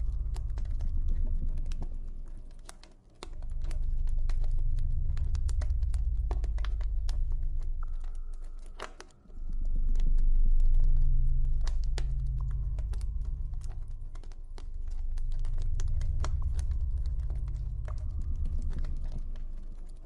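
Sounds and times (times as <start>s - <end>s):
low rumble of burning fire: 0.0s - 20.0s.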